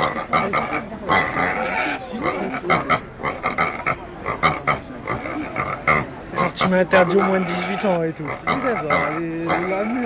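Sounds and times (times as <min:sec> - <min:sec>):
pigs grunting: 0:00.0 - 0:10.0.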